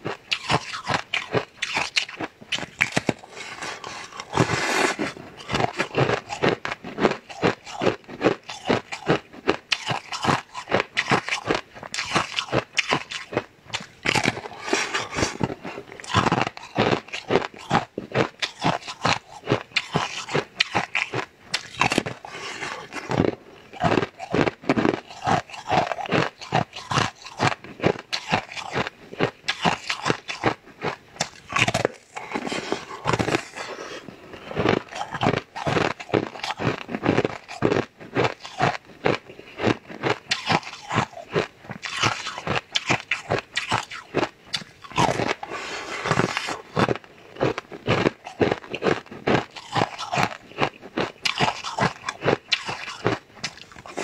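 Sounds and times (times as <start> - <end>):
crunchy food being chewed: 0.0 - 54.0
wet mouth sounds: 0.2 - 54.0.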